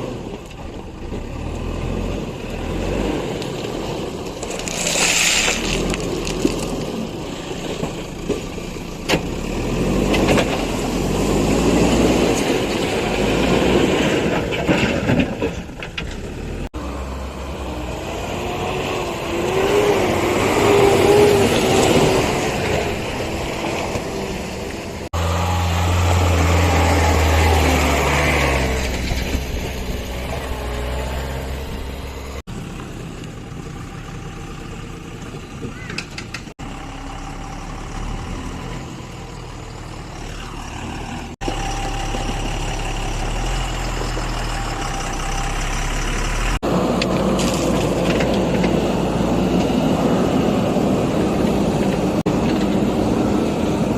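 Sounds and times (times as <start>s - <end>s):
diesel engine revving under load: 0.0s - 53.9s.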